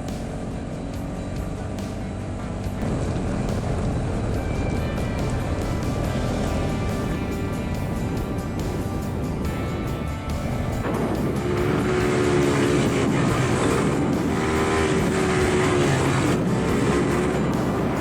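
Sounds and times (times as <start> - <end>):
atv engine revving: 0.0 - 18.0
background music: 0.0 - 18.0.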